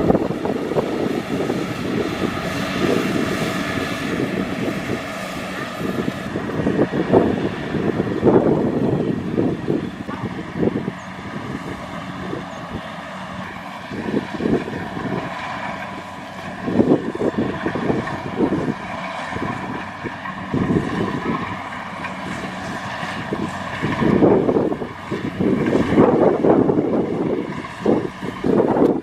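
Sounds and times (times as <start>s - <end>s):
combine harvester running: 0.0s - 29.0s
wind buffeting microphone: 0.0s - 29.0s.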